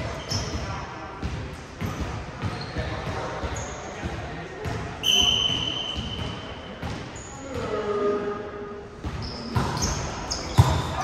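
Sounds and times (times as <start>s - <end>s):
sneakers squeaking on court: 0.0s - 7.9s, 9.0s - 11.0s.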